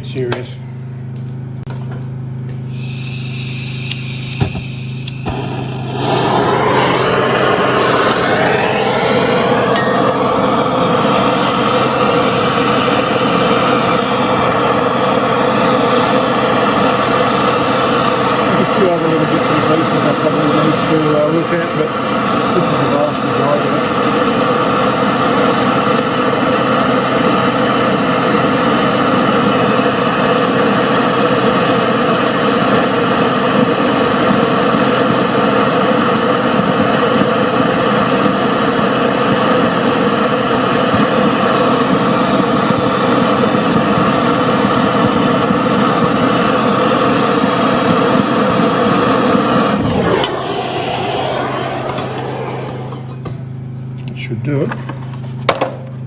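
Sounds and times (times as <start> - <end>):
machine motor running: 1.1 - 54.2.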